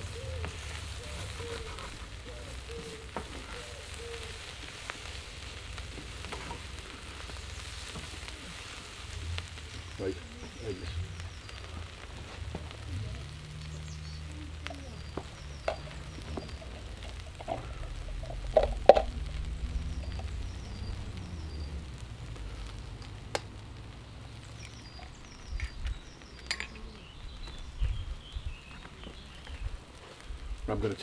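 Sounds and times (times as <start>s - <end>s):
greens sizzling in a frying pan: 0.0s - 31.0s.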